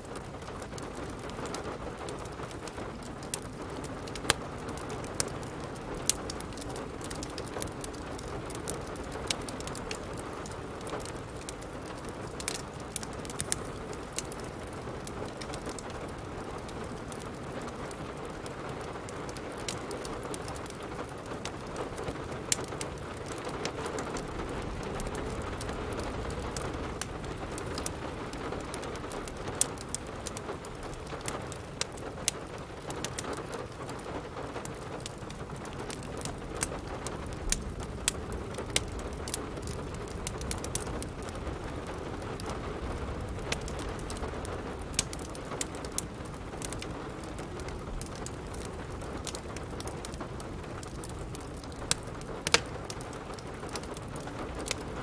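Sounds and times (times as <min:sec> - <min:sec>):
steady rain: 0:00.0 - 0:55.0
wood fire crackling: 0:00.0 - 0:55.0.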